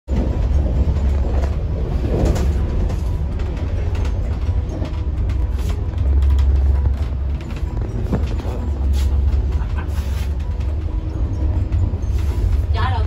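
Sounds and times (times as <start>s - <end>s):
train carriage rumble: 0.1s - 13.0s.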